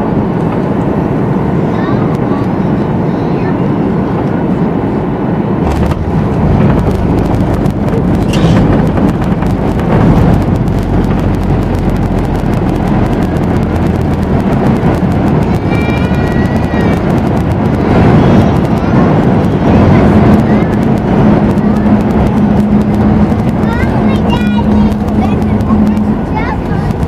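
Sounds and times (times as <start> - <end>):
jet engine rumble: 0.0 - 27.0
rushing air: 0.0 - 27.0.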